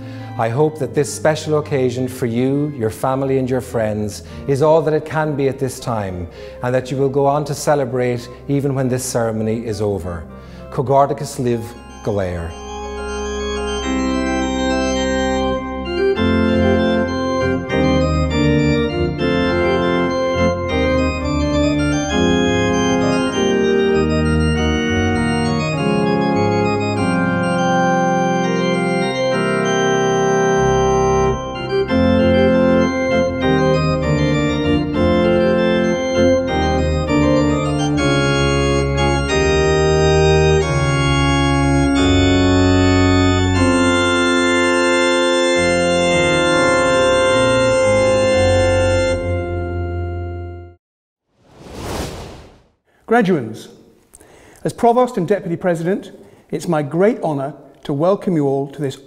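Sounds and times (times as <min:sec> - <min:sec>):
organ chords: 0:00.0 - 0:50.8.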